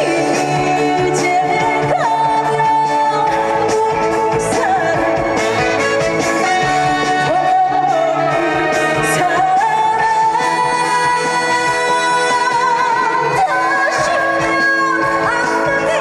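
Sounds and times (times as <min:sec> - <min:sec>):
band backing track: 0:00.0 - 0:16.0
woman singing: 0:00.0 - 0:16.0.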